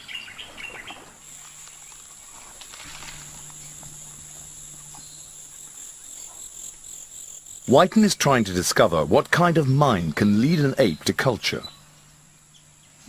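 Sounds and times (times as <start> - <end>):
high-pitched insect drone: 1.2 - 13.0.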